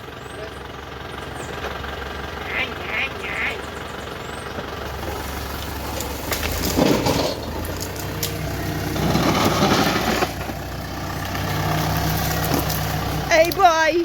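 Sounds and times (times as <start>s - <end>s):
engine running with rough crunching: 0.0s - 14.0s.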